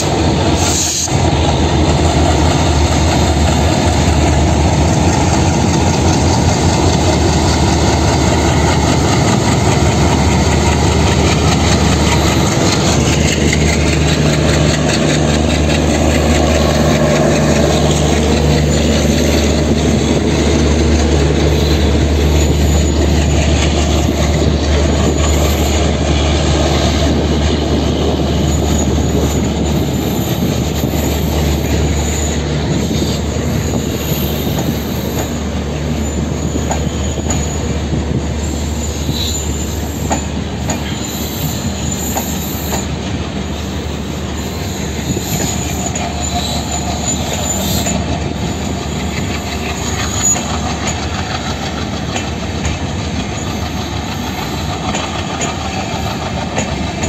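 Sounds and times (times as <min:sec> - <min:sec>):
diesel locomotive engine hum: 0:00.0 - 0:57.0
train wheels clicking over rail joints: 0:00.0 - 0:57.0
high wheel squeal: 0:02.2 - 0:57.0.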